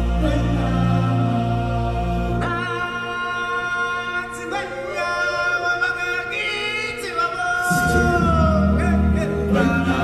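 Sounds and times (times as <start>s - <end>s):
singers holding long notes: 0.0s - 10.0s.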